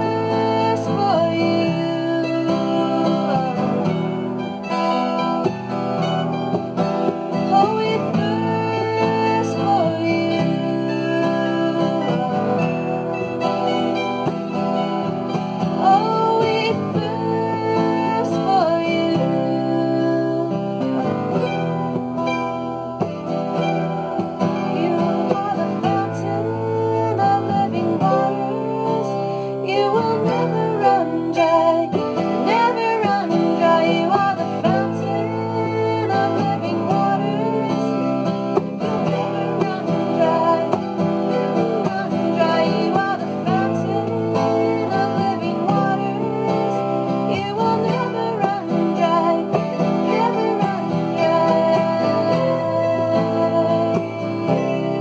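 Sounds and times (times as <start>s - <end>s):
acoustic guitar strumming: 0.0s - 55.0s
mandolin picked melody: 0.0s - 55.0s.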